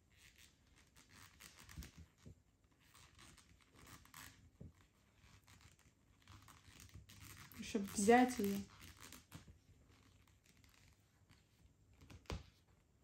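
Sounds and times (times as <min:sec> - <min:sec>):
yarn rustling and scratching: 0:00.0 - 0:13.0.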